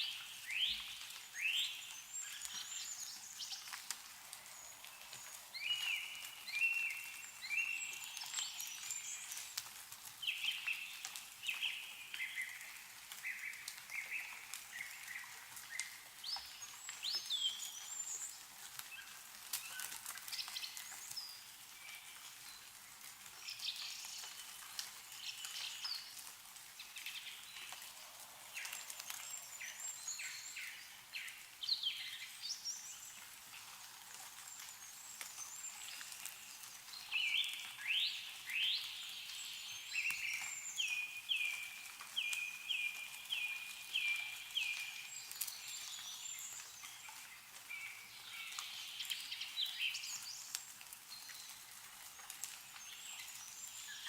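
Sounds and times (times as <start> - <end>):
melting snow dripping: 0.0 - 54.0
songbirds chirping: 0.0 - 54.0.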